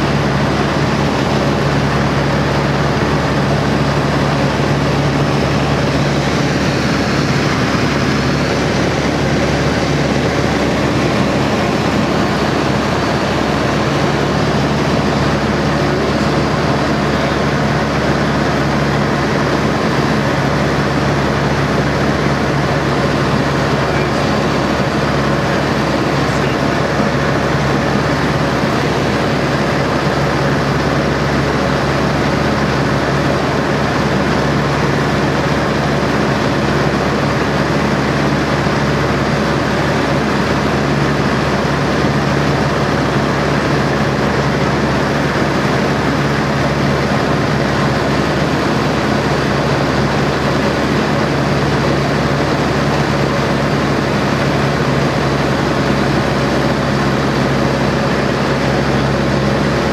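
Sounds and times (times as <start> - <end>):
propeller plane engine drone: 0.0 - 59.9.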